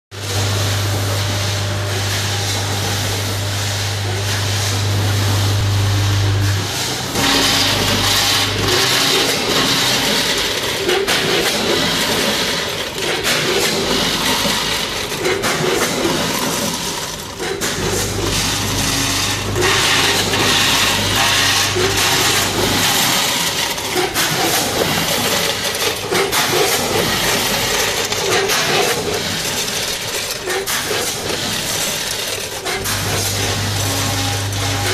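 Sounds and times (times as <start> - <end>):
low machine hum: 0.2 - 34.9
snacks rattling through feed pans: 6.3 - 34.9.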